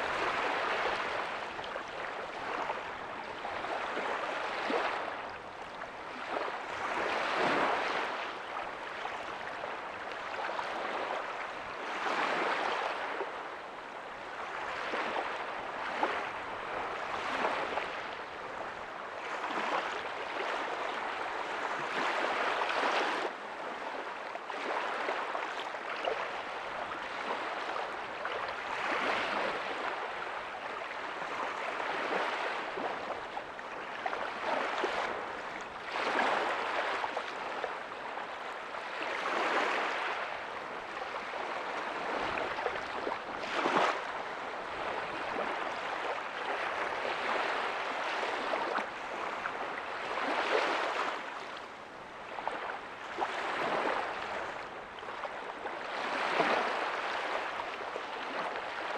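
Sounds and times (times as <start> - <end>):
ocean waves breaking on beach: 0.0 - 58.9.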